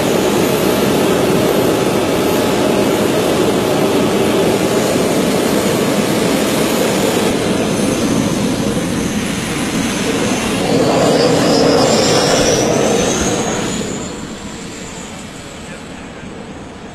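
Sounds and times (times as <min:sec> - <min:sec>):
turbine motorcycle roaring and whining: 0:00.0 - 0:16.8.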